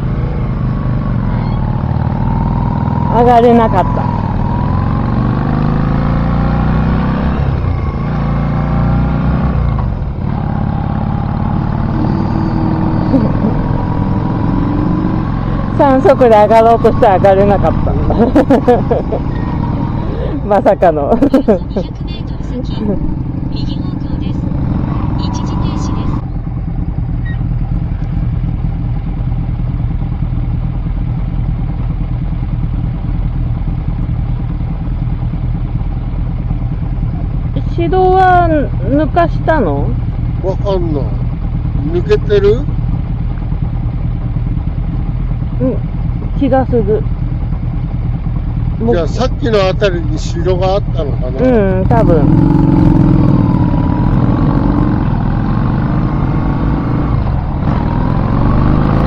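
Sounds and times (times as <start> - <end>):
vehicle engine straining under load: 0.0 - 31.7, 35.7 - 59.0
road noise: 0.0 - 59.0.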